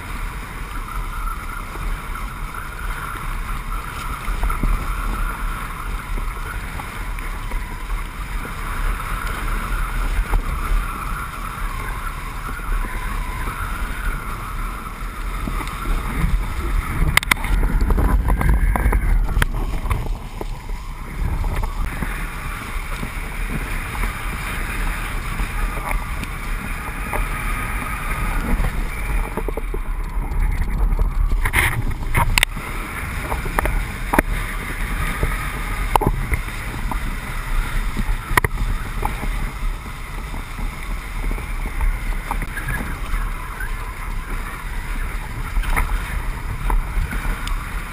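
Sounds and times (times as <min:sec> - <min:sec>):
board carving across water: 0:00.0 - 0:47.9
wind on microphone: 0:00.0 - 0:47.9.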